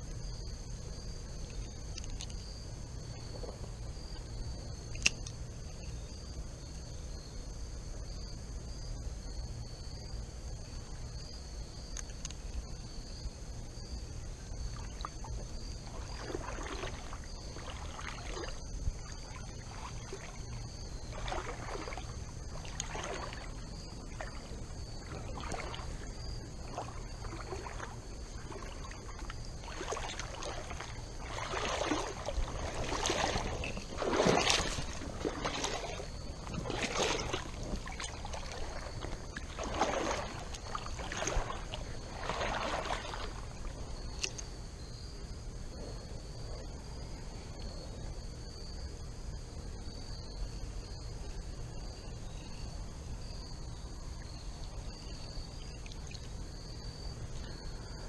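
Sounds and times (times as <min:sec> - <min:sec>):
water sloshing and splashing: 0:00.0 - 0:47.8, 0:49.8 - 0:58.0.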